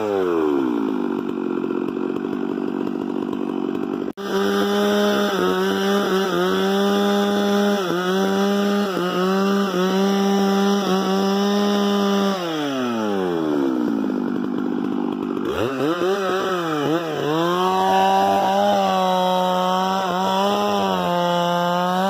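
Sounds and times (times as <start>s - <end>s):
chainsaw engine revving and idling: 0.0s - 22.0s.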